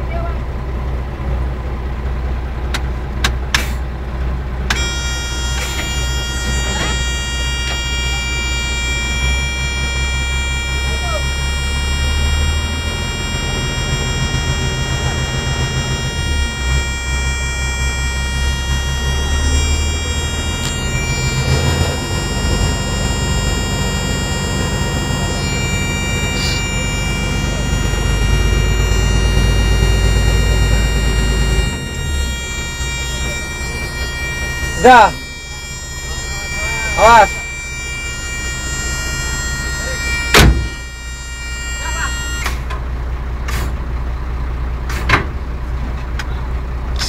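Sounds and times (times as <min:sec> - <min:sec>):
truck engine running: 0:00.0 - 0:47.0
hydraulic winch whine: 0:04.5 - 0:46.0.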